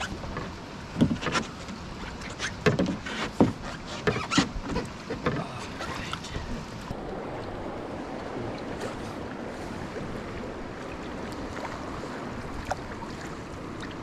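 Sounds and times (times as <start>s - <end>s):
faint paddle splashes: 0.0s - 14.0s
water lapping around canoe: 0.0s - 14.0s.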